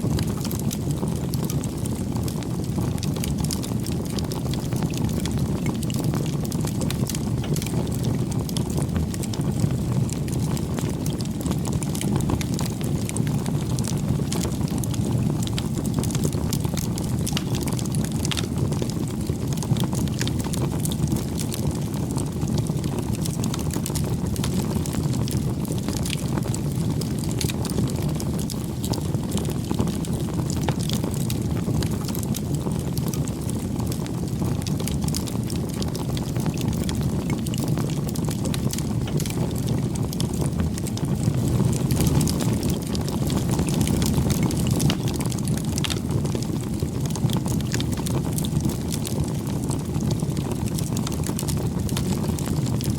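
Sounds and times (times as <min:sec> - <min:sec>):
campfire flames rushing: 0:00.0 - 0:52.9
wood crackling and popping: 0:00.0 - 0:52.9.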